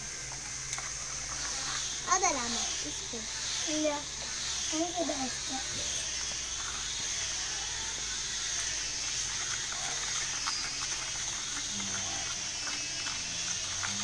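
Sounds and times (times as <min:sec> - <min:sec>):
steady high hiss: 0:00.0 - 0:14.0
sticks stirring sand in bowls: 0:00.0 - 0:14.0.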